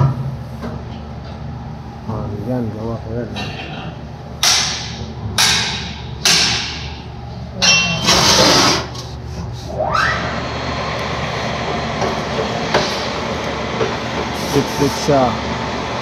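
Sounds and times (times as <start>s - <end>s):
mechanical din with low hum: 0.0s - 16.0s.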